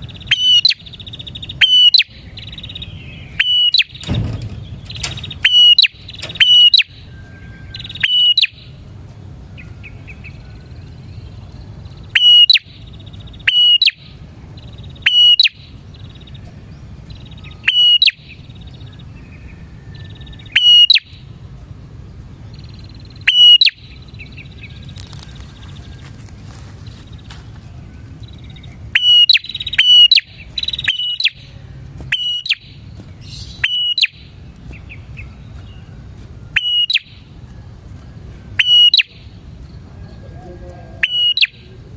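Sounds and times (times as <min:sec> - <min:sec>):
bird calling sharp notes: 0:00.0 - 0:08.9, 0:09.6 - 0:21.4, 0:22.5 - 0:37.6, 0:38.2 - 0:41.9
soft buzzy bird trills: 0:00.0 - 0:41.9
steady low hum: 0:00.0 - 0:41.9.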